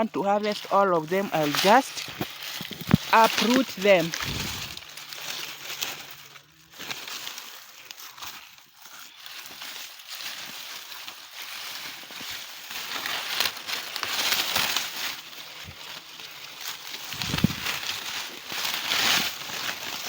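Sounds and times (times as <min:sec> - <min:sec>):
dry plants rustling: 0:00.0 - 0:20.0.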